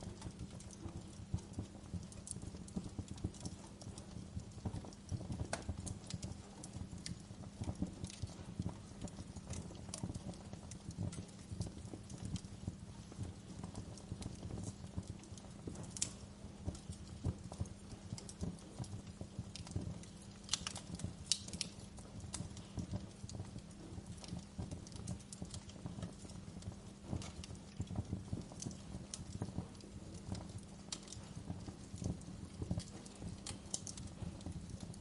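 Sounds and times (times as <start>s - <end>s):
fire crackling and popping: 0.0s - 35.0s
low rumble of flame: 0.0s - 35.0s.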